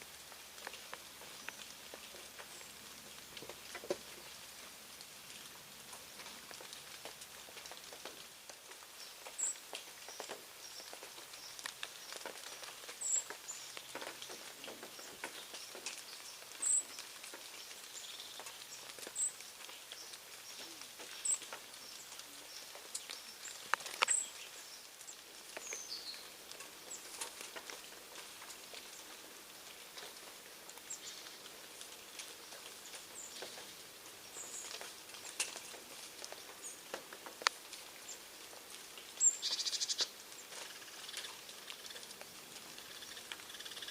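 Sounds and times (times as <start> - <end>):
birds pecking and hopping: 0.0 - 43.9.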